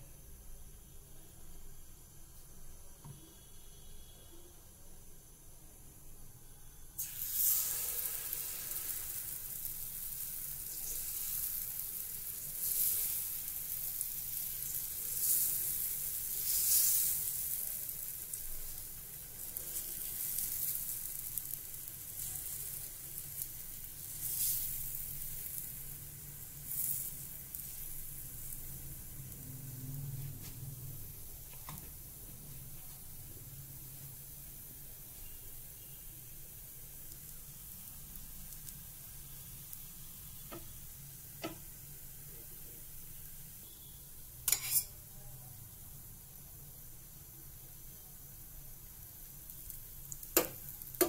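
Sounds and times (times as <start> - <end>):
batter sizzling on a griddle: 0.0 - 51.0.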